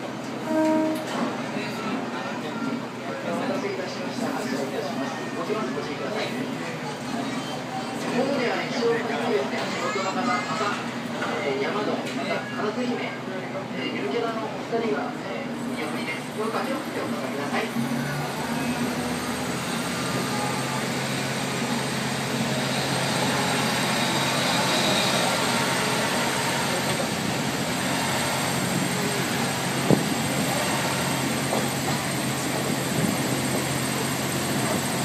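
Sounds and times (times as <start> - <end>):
train running heard from inside: 0.0 - 35.0.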